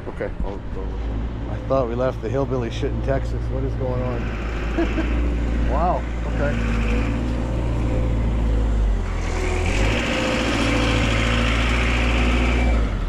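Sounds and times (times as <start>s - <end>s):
heavy vehicle engine running: 0.0s - 13.0s.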